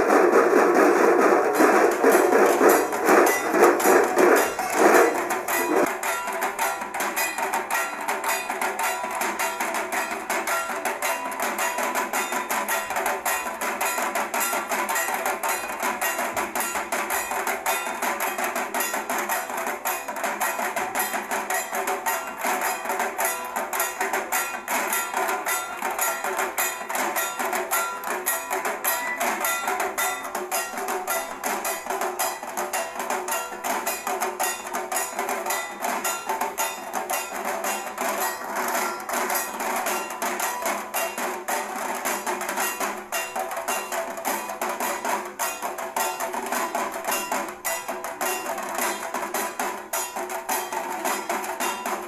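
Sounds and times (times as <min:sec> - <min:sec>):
fast continuous percussion: 0:00.0 - 0:52.0.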